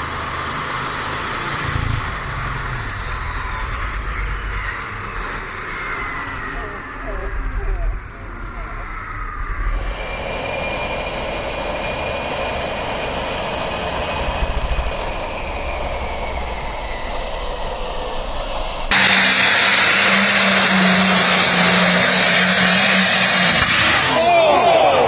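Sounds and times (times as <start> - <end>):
pulling engines running loud: 0.0 - 25.0.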